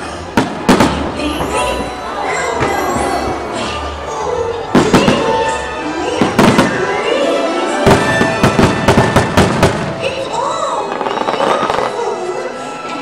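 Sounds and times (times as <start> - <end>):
fireworks bangs and crackles: 0.0 - 3.8, 4.6 - 7.1, 7.7 - 12.4
fireworks show music: 0.0 - 13.0.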